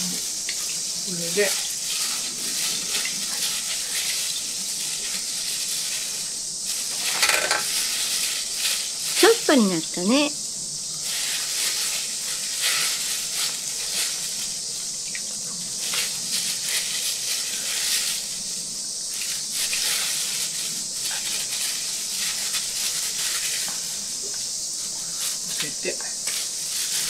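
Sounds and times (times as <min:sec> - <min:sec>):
plastic gloves crinkling: 0:01.0 - 0:10.2, 0:11.0 - 0:15.0, 0:15.6 - 0:27.0.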